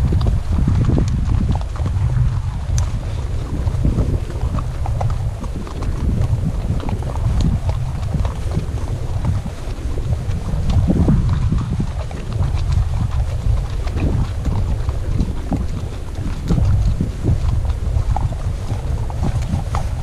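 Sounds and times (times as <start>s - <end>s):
horse hooves clopping on dirt: 0.0s - 20.0s
wind rumble on microphone: 0.0s - 20.0s.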